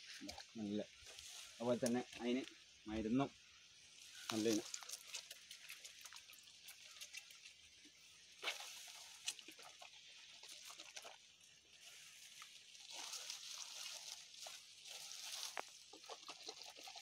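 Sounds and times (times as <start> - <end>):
leaves rustling: 0.0 - 17.0
ticks and crackles of twigs: 0.0 - 17.0.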